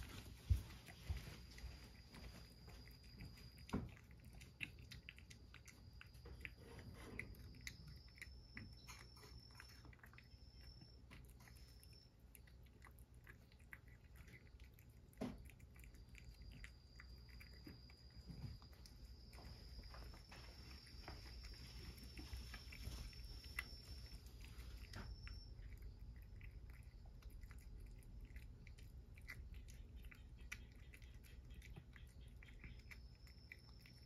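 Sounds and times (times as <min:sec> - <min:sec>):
cat chewing food: 0:00.0 - 0:34.0.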